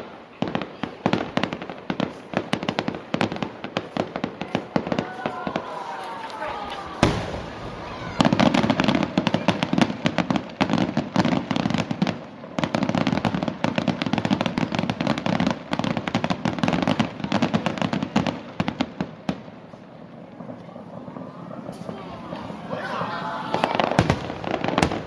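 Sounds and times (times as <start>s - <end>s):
fireworks crackling pops: 0.0s - 25.0s.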